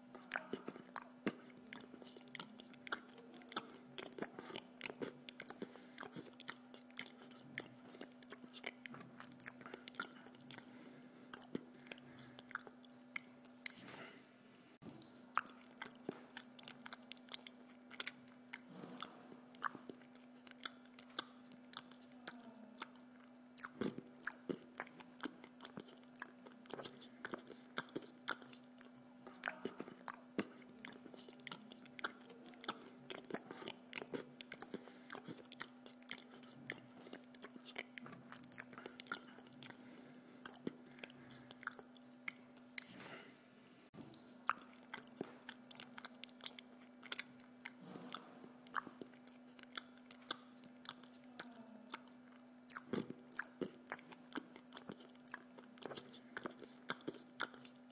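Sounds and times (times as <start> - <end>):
person chewing food: 0.0 - 57.9
steady low hum: 0.0 - 57.9.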